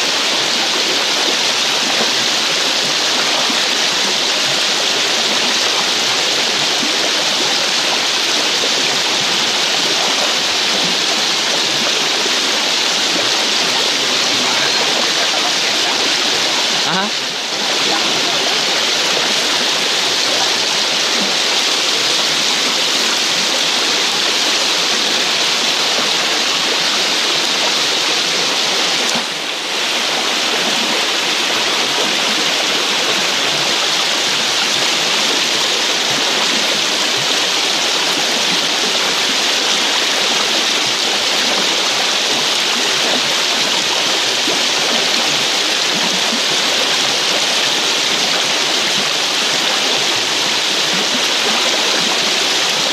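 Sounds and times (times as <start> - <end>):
river water rushing over stones: 0.0 - 52.9.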